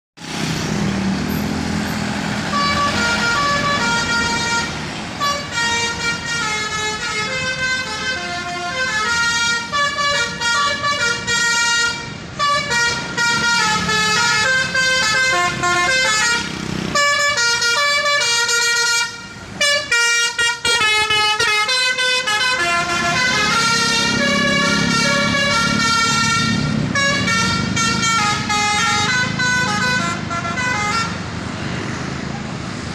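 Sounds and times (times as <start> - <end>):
multi-tone bus air horn tune: 2.5 - 31.2.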